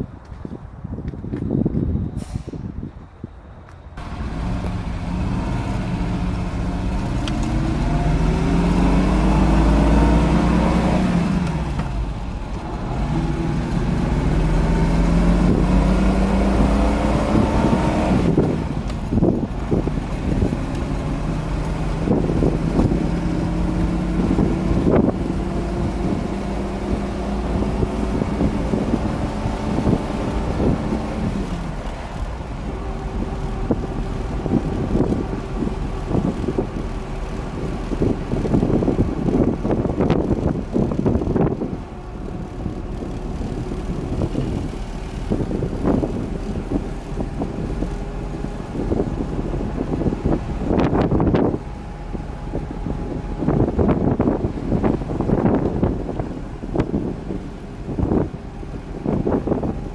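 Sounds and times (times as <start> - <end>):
road noise: 0.0 - 59.9
car engine accelerating: 4.0 - 59.9.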